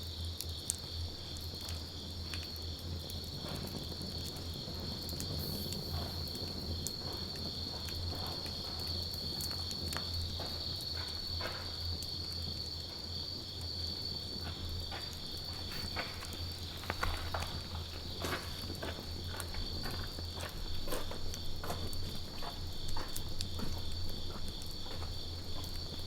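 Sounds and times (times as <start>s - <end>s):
insect trill: 0.1s - 26.0s
campfire crackling and popping: 0.4s - 26.0s.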